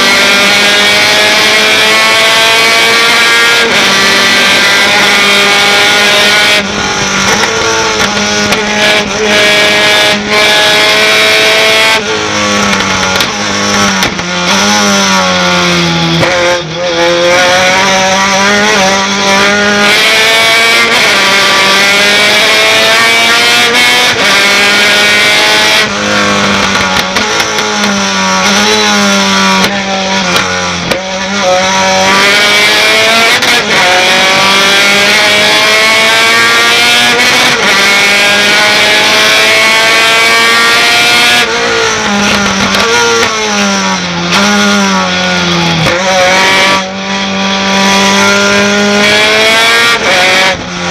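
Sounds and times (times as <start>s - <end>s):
racing truck engine revving: 0.0s - 50.9s.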